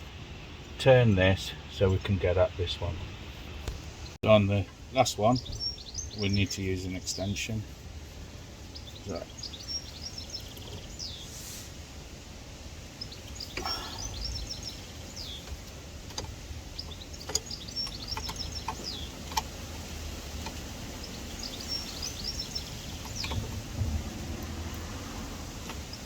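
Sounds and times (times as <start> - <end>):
low steady rumble: 0.0 - 26.0
small birds chirping: 0.0 - 26.0.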